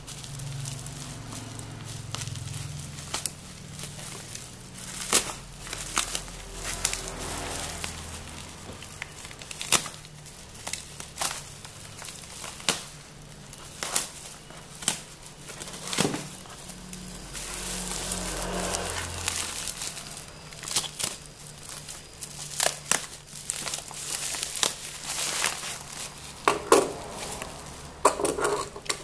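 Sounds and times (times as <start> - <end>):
plastic crinkling and tearing: 0.0 - 29.0.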